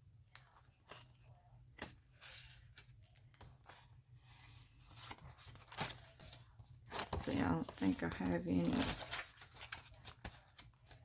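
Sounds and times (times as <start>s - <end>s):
paper pages turning: 0.2s - 11.0s.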